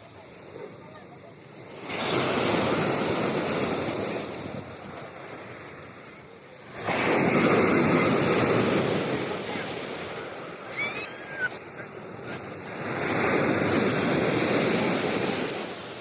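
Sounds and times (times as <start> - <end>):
waves crashing on beach: 0.0 - 16.0.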